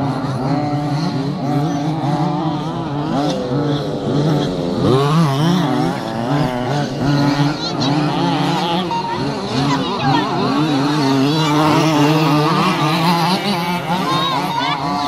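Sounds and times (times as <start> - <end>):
small two-stroke engines revving: 0.0 - 15.0.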